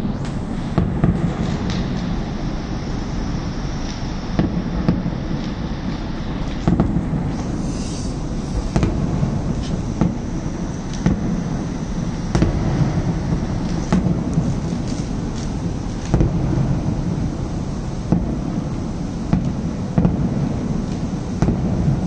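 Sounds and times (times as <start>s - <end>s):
fireworks rumble: 0.0s - 22.0s
fireworks sharp bangs: 0.0s - 22.0s.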